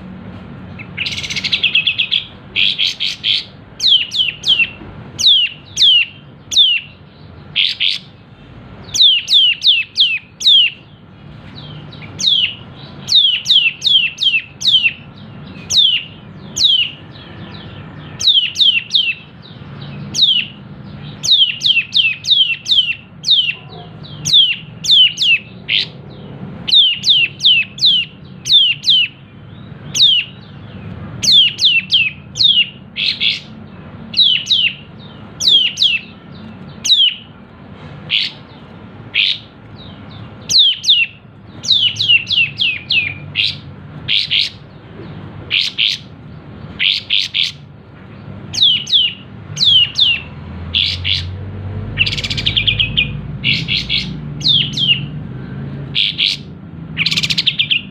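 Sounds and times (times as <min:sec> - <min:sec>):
harsh bird chatter: 0:00.0 - 0:57.9.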